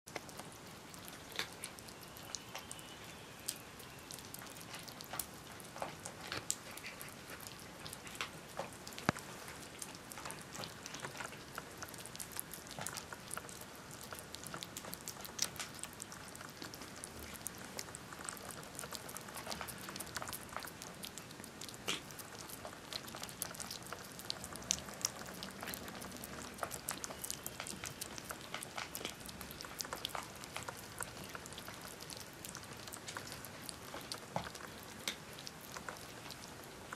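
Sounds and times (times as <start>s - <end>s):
kittens lapping and chewing food: 0.1s - 36.9s.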